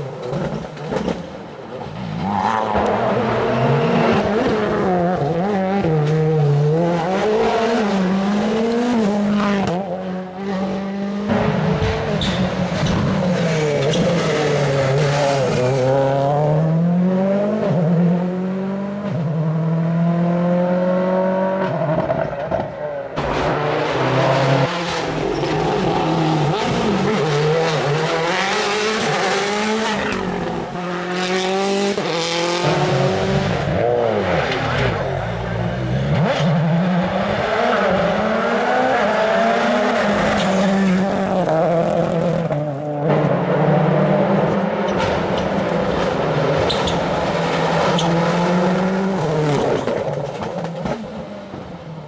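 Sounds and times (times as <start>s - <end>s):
rally car engine revving: 0.0s - 51.9s.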